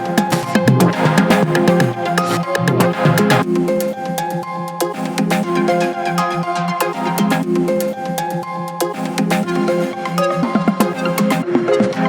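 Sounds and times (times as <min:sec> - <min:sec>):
electronic music with synth notes: 0:00.0 - 0:12.0.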